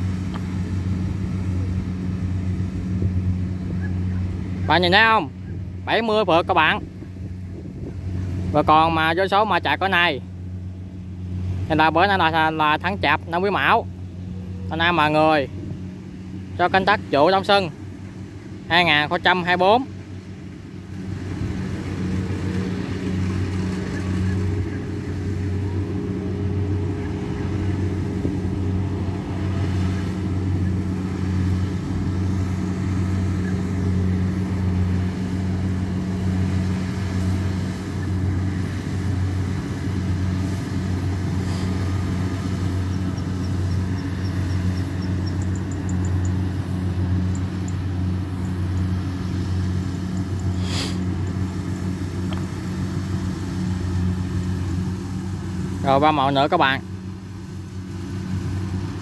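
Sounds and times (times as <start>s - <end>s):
harvester diesel engine droning: 0.0s - 59.0s.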